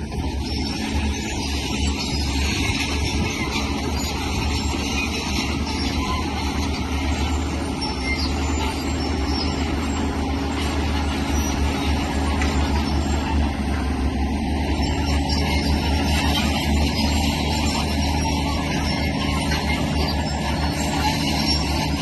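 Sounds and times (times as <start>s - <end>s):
diesel engine drone: 0.0s - 22.0s
rough mechanical clatter: 0.0s - 22.0s.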